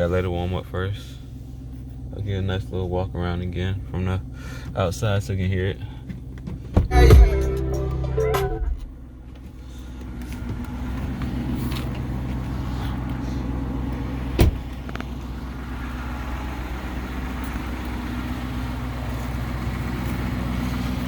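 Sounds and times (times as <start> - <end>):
car engine idling: 0.2 - 21.0.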